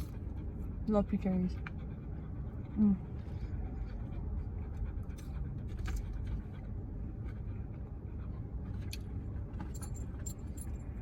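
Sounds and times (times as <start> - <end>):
low rumble in car cabin: 0.0 - 11.0.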